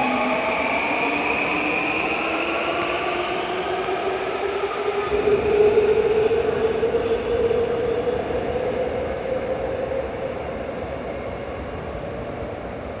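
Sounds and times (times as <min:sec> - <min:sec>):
subway train pulling out: 0:00.0 - 0:13.0.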